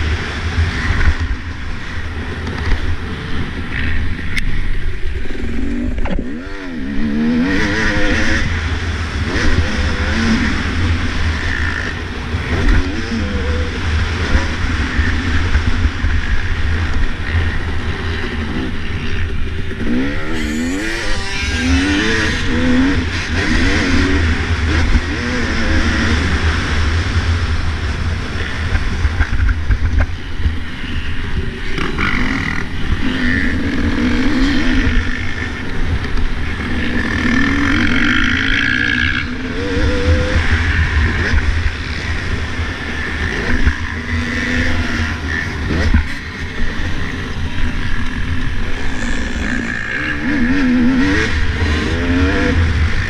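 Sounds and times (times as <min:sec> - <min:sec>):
dirt bike engine revving: 0:00.0 - 0:53.0
wind rumble: 0:00.0 - 0:53.0.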